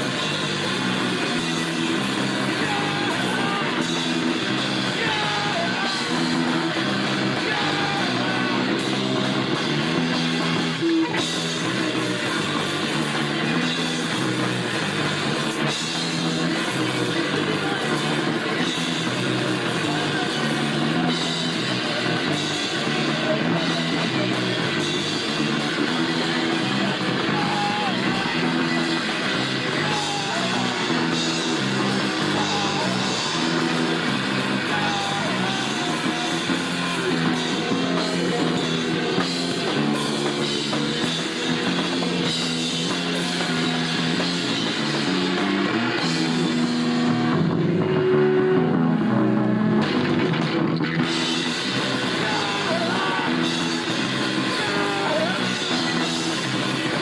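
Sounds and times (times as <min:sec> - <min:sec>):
punk rock band playing live: 0:00.0 - 0:57.0.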